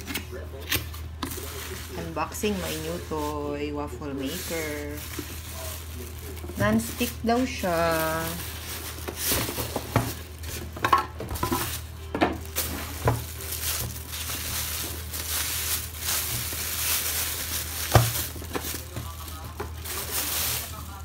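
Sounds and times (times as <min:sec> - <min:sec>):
plastic bag rustling and crinkling: 0:00.0 - 0:21.0.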